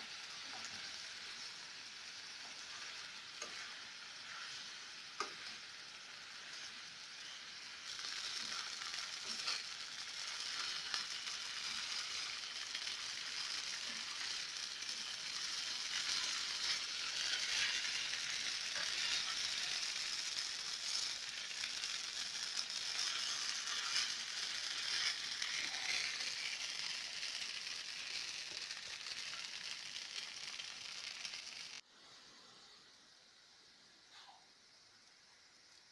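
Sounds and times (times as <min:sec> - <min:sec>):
food sizzling in a frying pan: 0:00.0 - 0:35.9.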